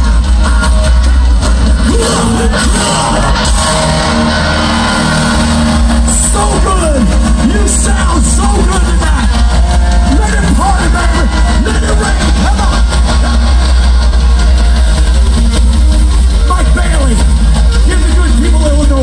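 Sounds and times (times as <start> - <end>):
crowd yelling and whooping: 0.0 - 19.0
live rock band playing: 0.0 - 19.0.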